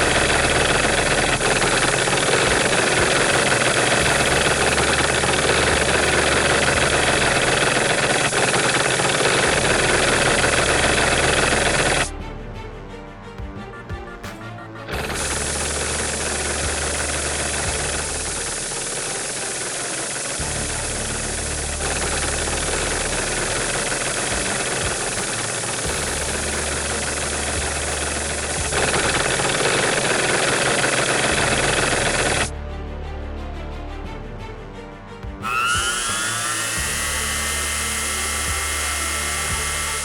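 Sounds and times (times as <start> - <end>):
small engine running harshly: 0.0 - 12.1, 14.8 - 32.5, 35.4 - 40.0
music bass pulses: 0.0 - 19.4, 20.4 - 30.4, 31.2 - 32.7, 35.2 - 40.0.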